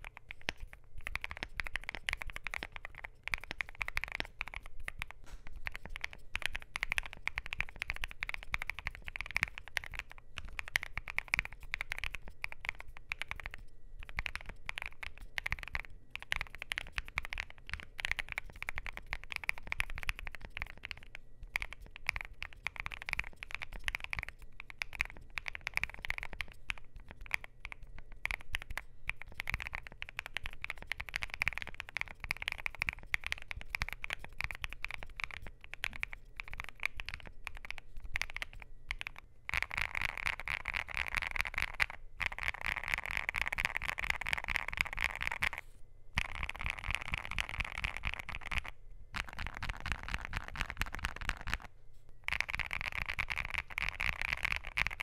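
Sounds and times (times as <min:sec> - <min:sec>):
mechanical keyboard typing: 0:00.0 - 0:45.6, 0:46.2 - 0:51.7, 0:52.3 - 0:55.0.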